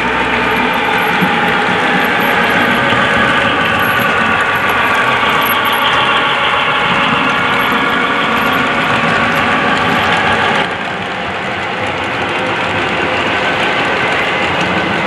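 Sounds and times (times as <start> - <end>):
model train running with whine: 0.0 - 15.0.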